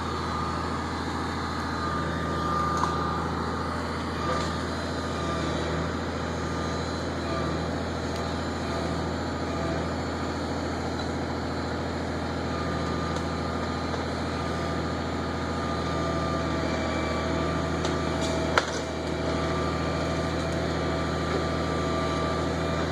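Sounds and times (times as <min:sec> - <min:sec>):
truck diesel engine running: 0:00.0 - 0:22.9.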